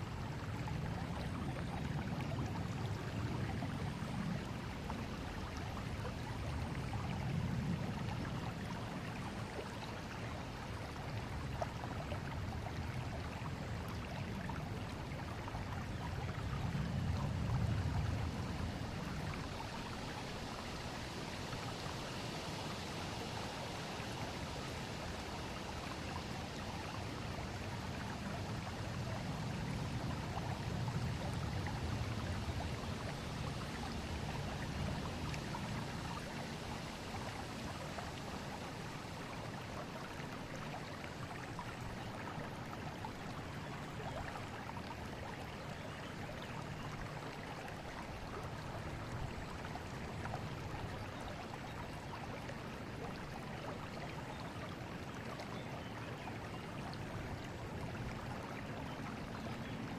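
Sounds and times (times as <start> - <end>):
river water rushing: 8.1 - 59.9.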